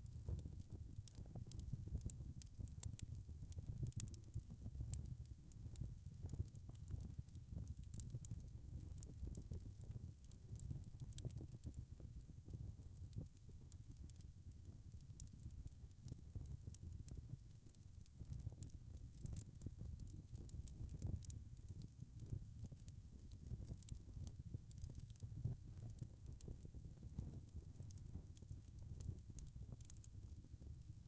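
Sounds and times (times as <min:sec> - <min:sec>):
sharp pops and snaps of fire: 0:00.0 - 0:31.0
wood fire crackling: 0:00.0 - 0:31.0.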